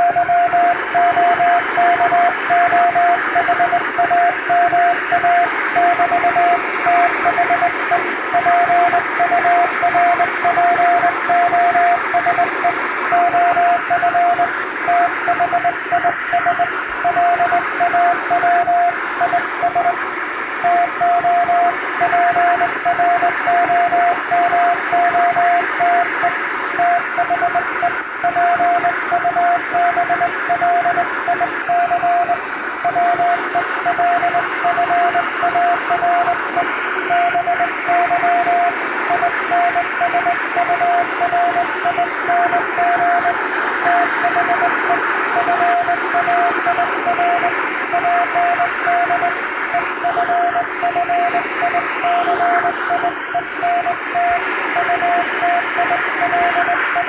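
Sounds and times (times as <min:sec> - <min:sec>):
morse code tone: 0:00.0 - 0:20.0, 0:20.6 - 0:57.0.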